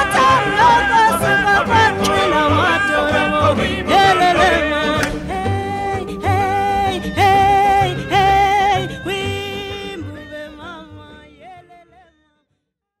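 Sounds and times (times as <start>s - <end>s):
music with long held notes: 0.0s - 11.9s.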